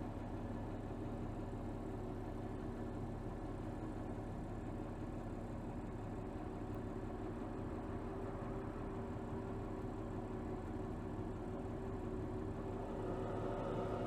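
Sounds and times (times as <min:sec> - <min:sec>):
car engine running at low revs: 0:00.0 - 0:14.0.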